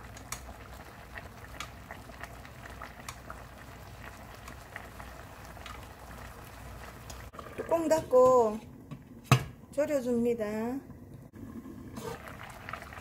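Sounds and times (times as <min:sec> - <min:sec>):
sauce bubbling and popping: 0:00.0 - 0:09.6, 0:10.8 - 0:13.0.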